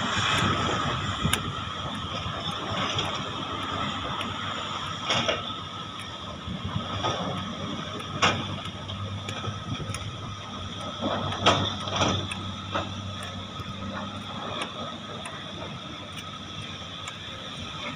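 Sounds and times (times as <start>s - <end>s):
diesel engine with whine: 0.0s - 17.9s
excavator clanks and knocks: 0.0s - 17.9s.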